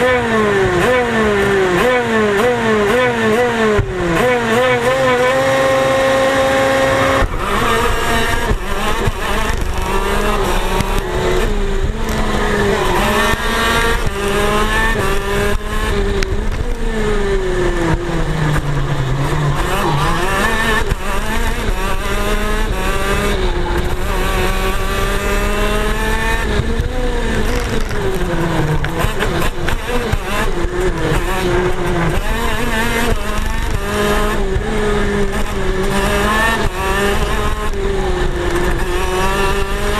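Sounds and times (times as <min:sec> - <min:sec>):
kart engines revving: 0:00.0 - 0:39.9.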